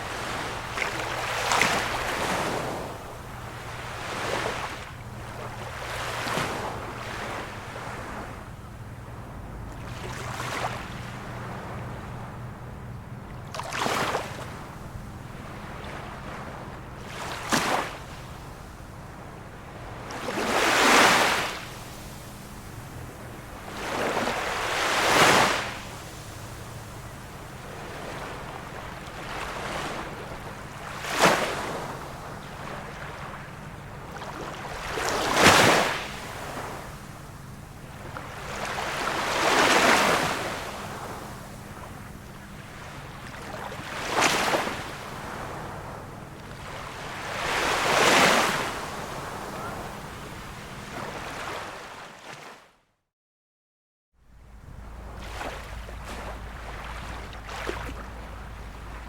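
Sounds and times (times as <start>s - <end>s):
small waves breaking: 0.0s - 52.7s, 54.3s - 59.0s.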